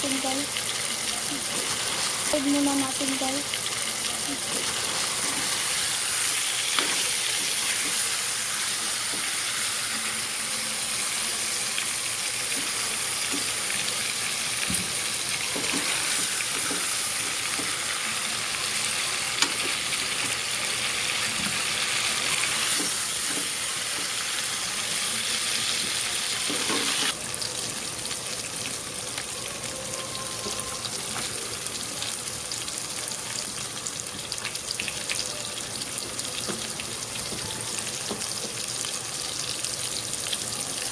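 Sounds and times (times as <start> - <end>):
chicken sizzling in oil: 0.0 - 40.9.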